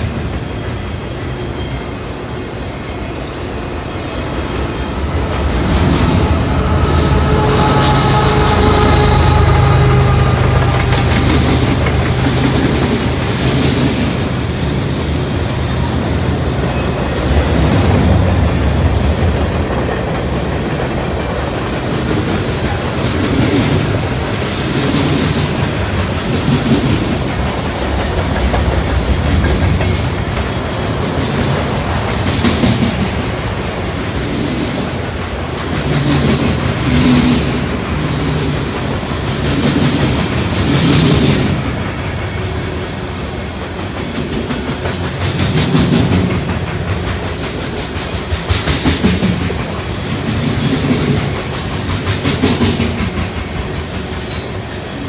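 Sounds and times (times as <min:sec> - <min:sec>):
freight train wheels rumbling: 0:00.0 - 0:55.0
clickety-clack over rail joints: 0:09.8 - 0:55.0.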